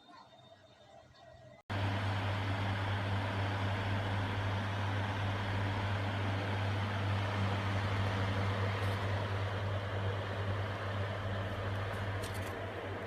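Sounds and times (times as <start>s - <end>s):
exhaust fan running: 1.7s - 13.0s.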